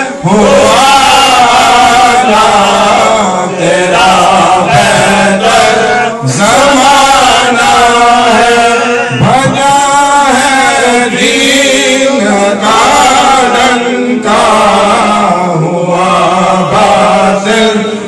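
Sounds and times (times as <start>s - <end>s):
man chanting devotional poem: 0.0s - 18.0s.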